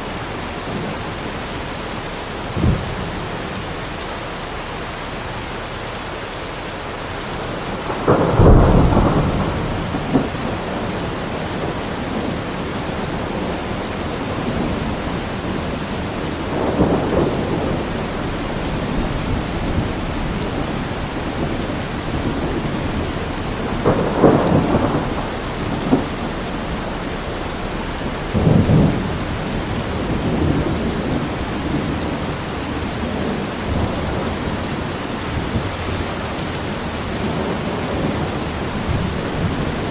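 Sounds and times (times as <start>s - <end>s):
steady rain falling: 0.0s - 39.9s
thunder rumbling: 1.9s - 3.9s, 7.0s - 39.9s.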